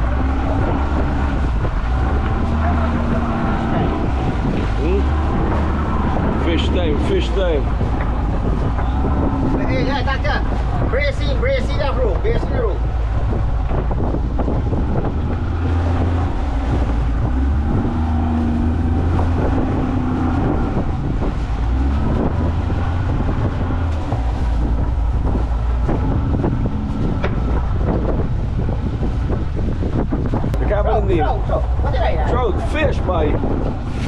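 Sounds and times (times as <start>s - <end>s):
sea washing along hull: 0.0s - 34.0s
wind buffeting microphone: 0.0s - 34.0s.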